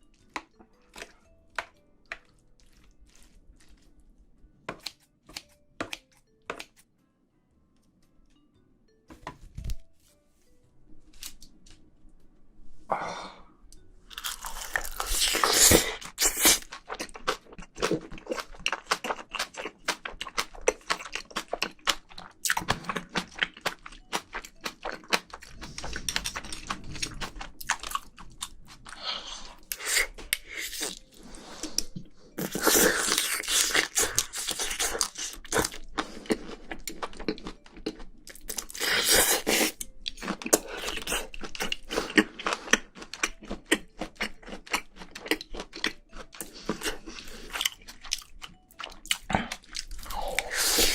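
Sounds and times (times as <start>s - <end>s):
close chewing and crunching: 0.0s - 4.2s, 14.1s - 50.9s.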